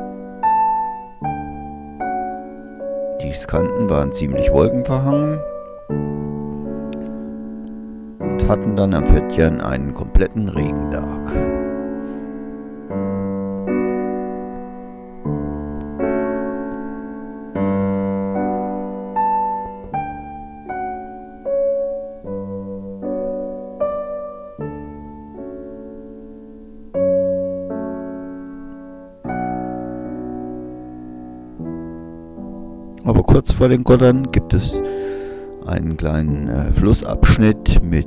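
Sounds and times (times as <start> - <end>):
slow piano music: 0.0 - 38.0.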